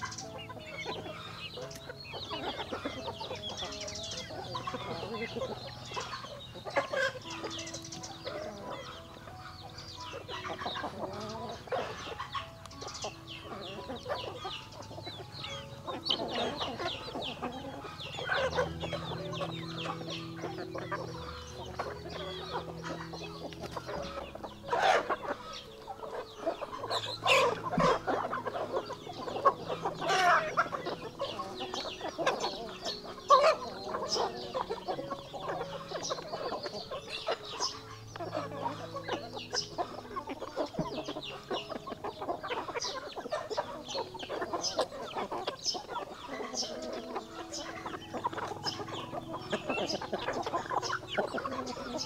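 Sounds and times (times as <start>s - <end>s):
chickens clucking: 0.0s - 52.0s.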